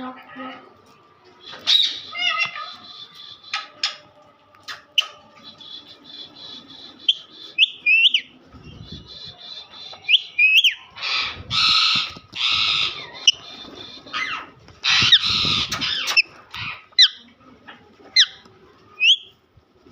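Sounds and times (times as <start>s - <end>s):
parrots chirping and chattering: 1.4s - 18.4s.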